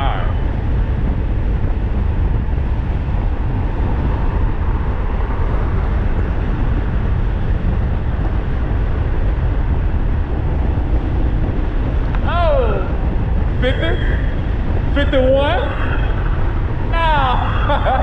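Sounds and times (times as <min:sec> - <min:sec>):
tyre and road noise: 0:00.0 - 0:18.0
wind on microphone: 0:00.0 - 0:18.0.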